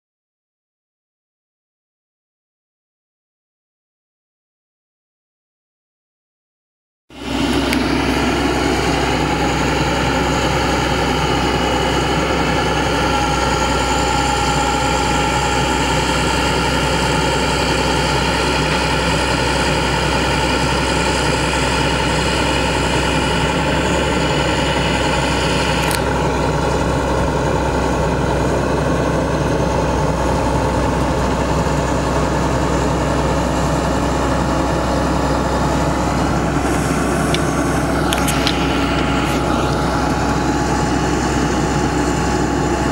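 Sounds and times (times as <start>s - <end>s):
diesel engine drone: 7.1s - 42.9s
high hydraulic whine: 7.1s - 42.9s.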